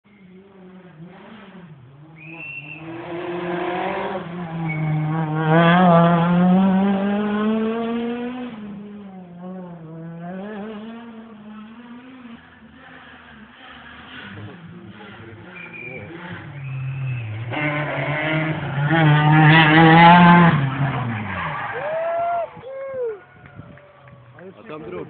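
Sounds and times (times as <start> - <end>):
rally car engine accelerating: 0.1 - 25.0.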